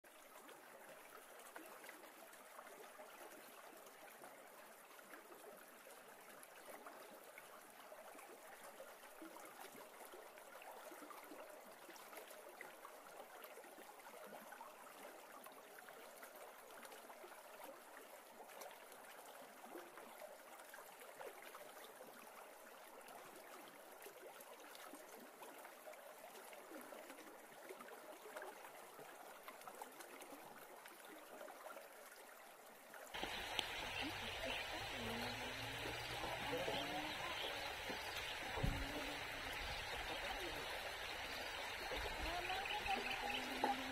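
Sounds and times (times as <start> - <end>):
shallow river flowing: 0.1 - 43.9.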